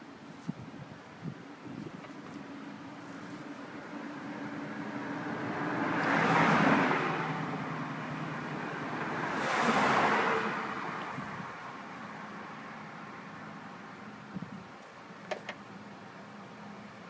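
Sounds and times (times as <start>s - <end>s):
cars passing on a road: 0.0s - 17.0s.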